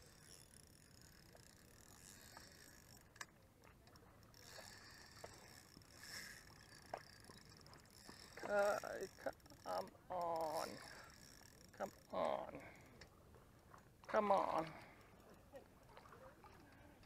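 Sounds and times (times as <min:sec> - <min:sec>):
fishing reel clicks: 0:00.0 - 0:13.1, 0:14.1 - 0:15.4.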